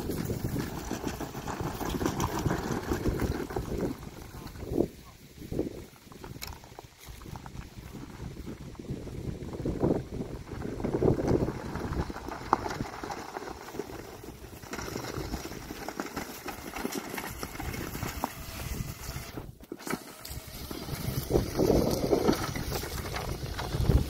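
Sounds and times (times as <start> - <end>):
wind buffeting microphone: 0.0 - 15.8, 20.3 - 24.0
tyres crunching on gravel: 0.0 - 24.0.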